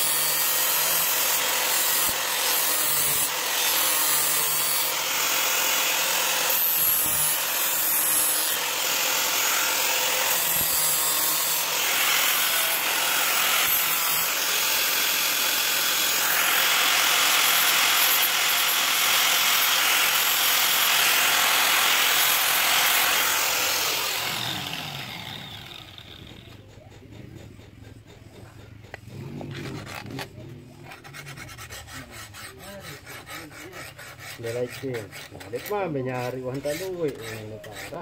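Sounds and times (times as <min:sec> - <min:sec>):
angle grinder grinding steel: 0:00.0 - 0:38.0.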